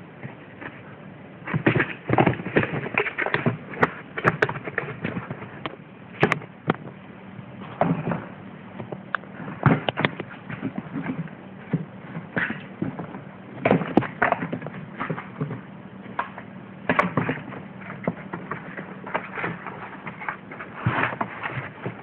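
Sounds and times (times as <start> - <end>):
kitten thumping and scratching cardboard: 0.2 - 7.0, 7.6 - 22.0.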